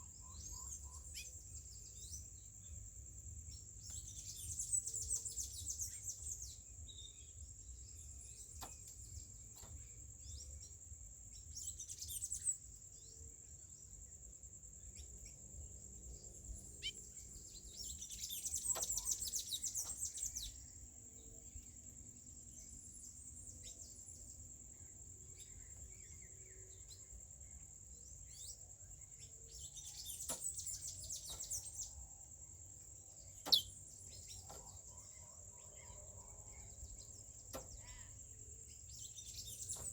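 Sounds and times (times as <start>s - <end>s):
songbird twittering: 0.0s - 10.7s, 14.8s - 39.9s.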